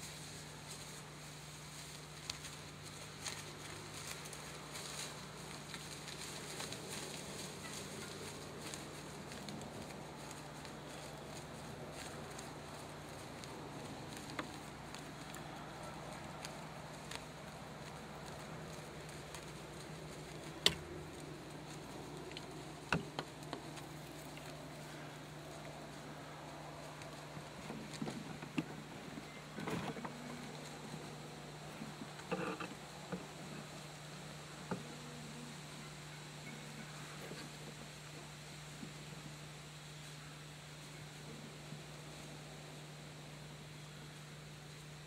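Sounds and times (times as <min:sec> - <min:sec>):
dry leaves rustling and crackling: 0:00.0 - 0:45.0
steady low hum: 0:00.0 - 0:45.0.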